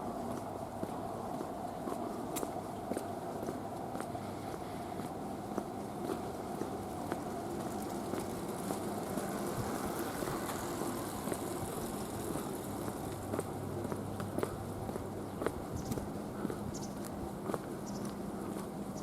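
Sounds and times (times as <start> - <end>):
footsteps on pavement: 0.0 - 19.0
road traffic hum: 0.0 - 19.0.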